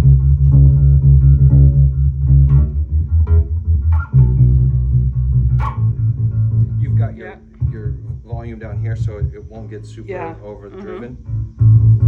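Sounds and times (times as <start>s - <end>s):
overdriven electric bass notes: 0.0s - 12.0s.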